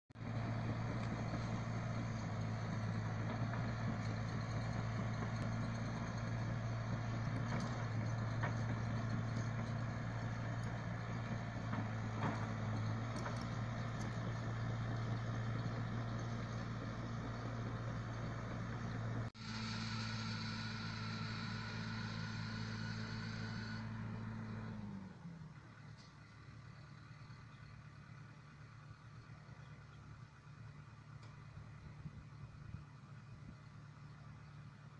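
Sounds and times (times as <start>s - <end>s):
diesel excavator engine droning: 0.1s - 34.9s.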